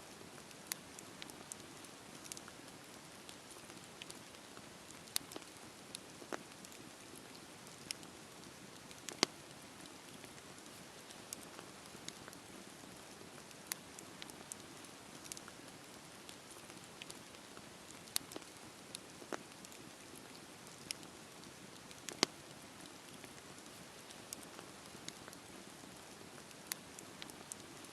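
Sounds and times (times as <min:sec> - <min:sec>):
burning wood crackling and popping: 0:00.1 - 0:27.9
campfire flames hissing: 0:00.3 - 0:27.9.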